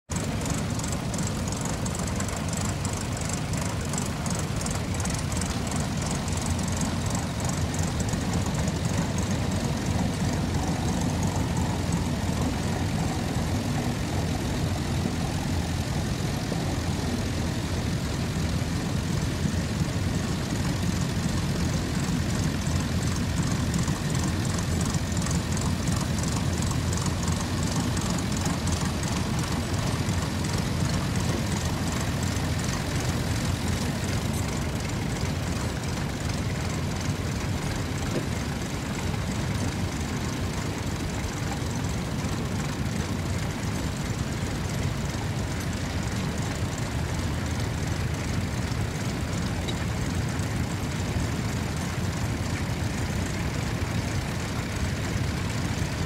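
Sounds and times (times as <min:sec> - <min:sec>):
tractors running under load: 0:00.1 - 0:56.0.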